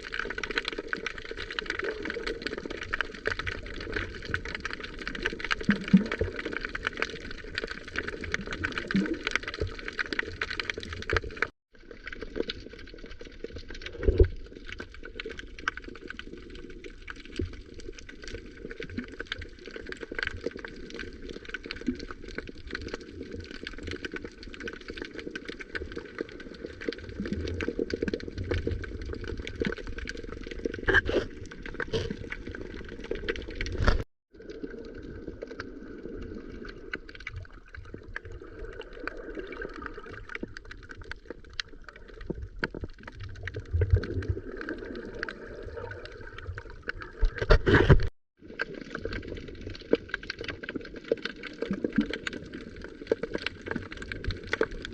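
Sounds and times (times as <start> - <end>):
sea water sloshing and gurgling: 0.0 - 54.9
water splashes: 0.0 - 54.9.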